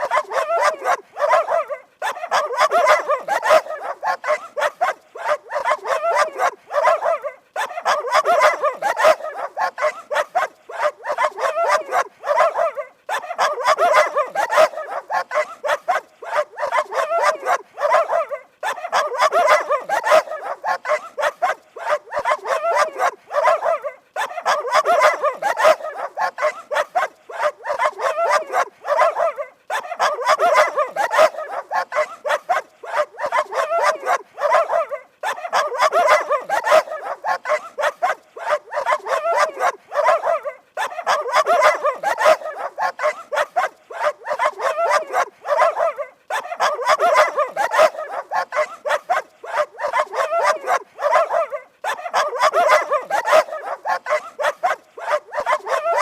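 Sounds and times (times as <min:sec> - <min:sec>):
dogs barking: 0:00.0 - 0:56.0.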